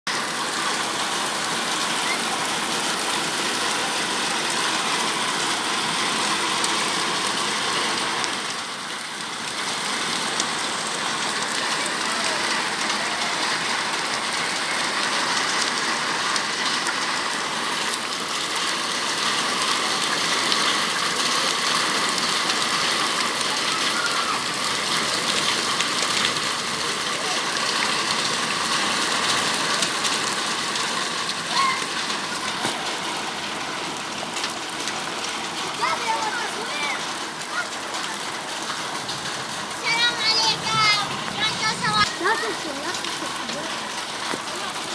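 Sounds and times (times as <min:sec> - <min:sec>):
heavy rain downpour: 0:00.1 - 0:44.9.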